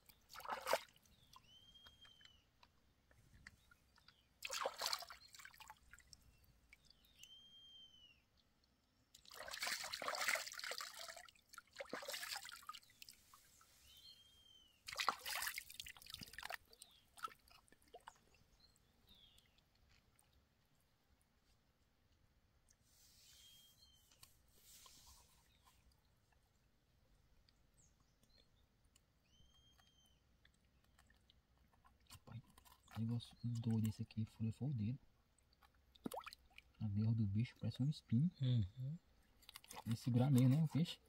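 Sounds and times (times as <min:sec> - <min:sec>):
water splashing and trickling: 0:00.0 - 0:07.5, 0:08.2 - 0:23.2, 0:24.3 - 0:38.2, 0:38.8 - 0:41.0.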